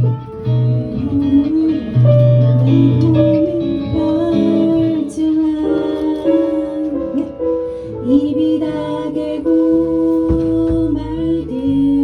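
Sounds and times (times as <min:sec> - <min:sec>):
bass line: 0:00.0 - 0:12.0
guitar playing: 0:00.0 - 0:12.0
person singing: 0:00.4 - 0:12.0.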